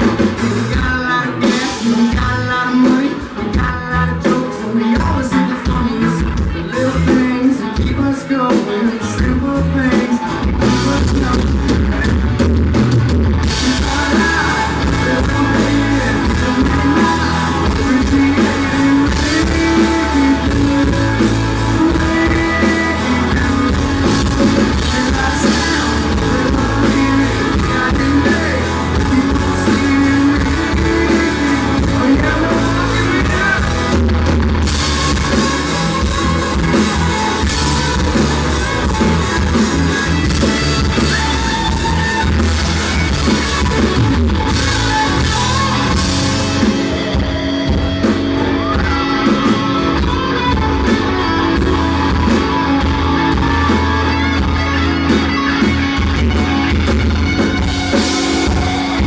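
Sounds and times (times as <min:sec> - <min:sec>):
live country rock band: 0:00.0 - 0:59.0.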